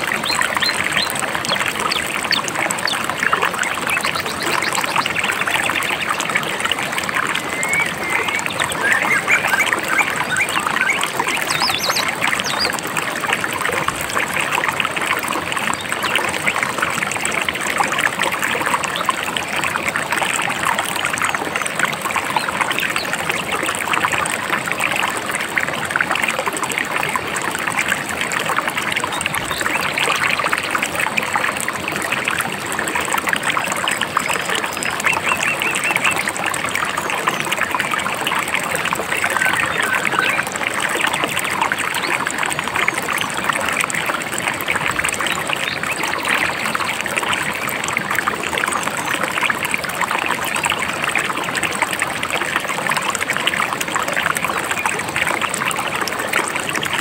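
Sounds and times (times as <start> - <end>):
river babbling: 0.0 - 57.0.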